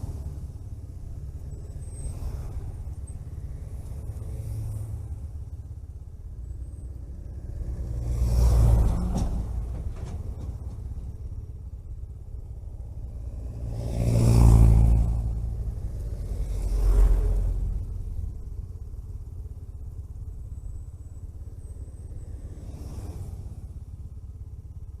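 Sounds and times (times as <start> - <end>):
passing vehicles whooshing: 0.0 - 25.0
road and engine rumble: 0.0 - 25.0.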